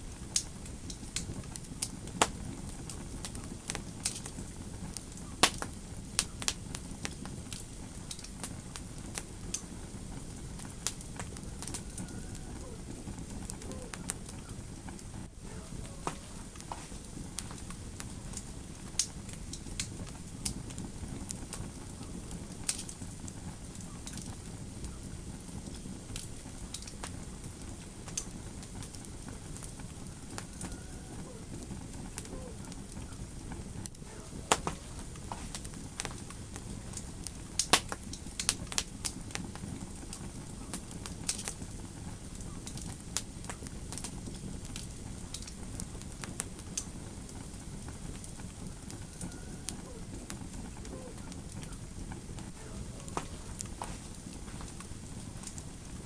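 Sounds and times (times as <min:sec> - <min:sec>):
fire crackling: 0:00.0 - 0:56.0
fire pops: 0:00.0 - 0:56.0.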